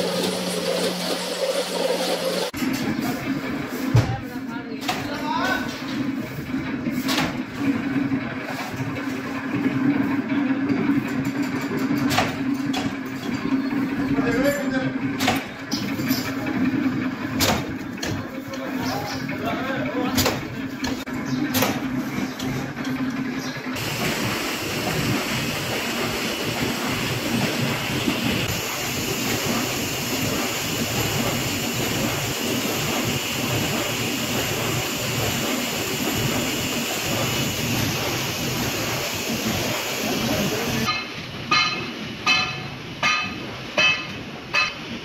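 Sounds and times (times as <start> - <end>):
factory machinery running: 0.0 - 45.0.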